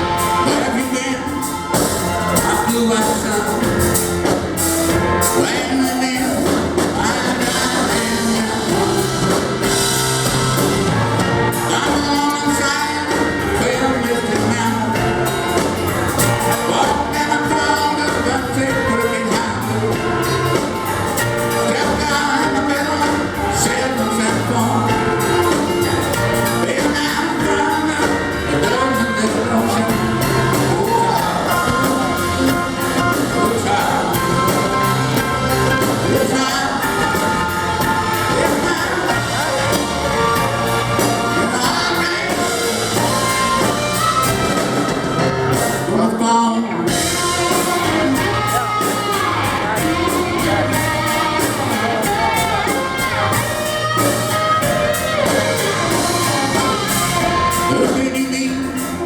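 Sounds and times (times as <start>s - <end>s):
lead singer: 0.0s - 59.0s
live band music: 0.0s - 59.0s.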